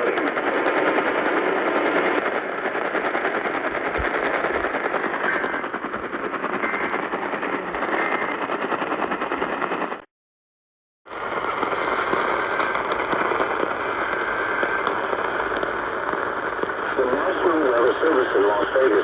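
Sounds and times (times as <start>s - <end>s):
radio static crackling: 0.0s - 9.3s, 11.1s - 19.0s.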